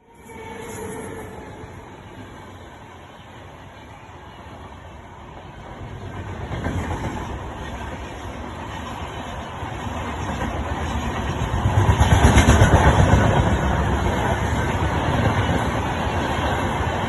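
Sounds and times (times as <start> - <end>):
train passing at high speed: 0.0 - 17.0.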